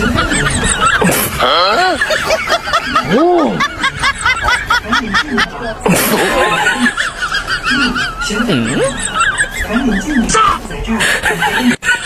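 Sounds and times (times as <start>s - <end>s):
cartoon snickering laugh: 0.0s - 12.0s.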